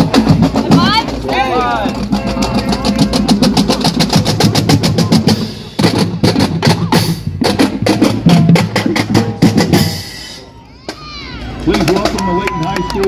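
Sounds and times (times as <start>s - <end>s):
marching snare and bass drums: 0.0s - 12.7s.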